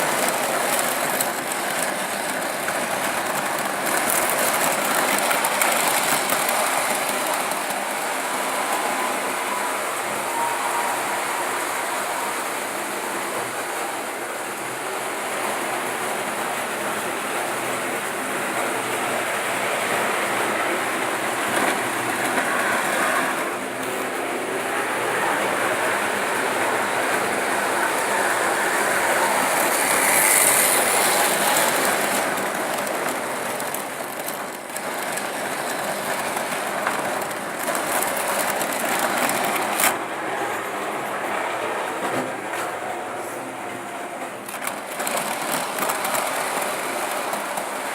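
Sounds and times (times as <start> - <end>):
model train rolling on track: 0.0 - 47.9.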